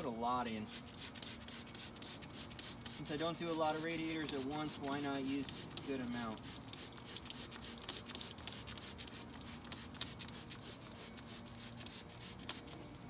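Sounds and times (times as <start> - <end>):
spray bottle spraying hisses: 0.7 - 12.8.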